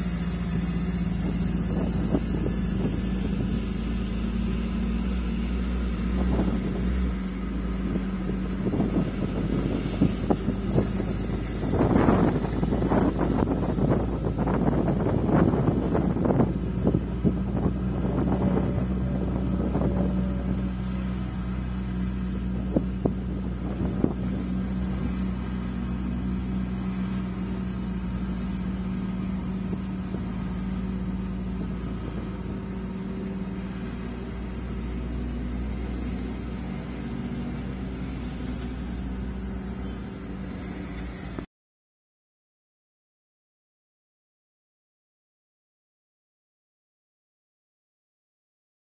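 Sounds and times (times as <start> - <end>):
excavator diesel engine running: 0.0 - 41.5.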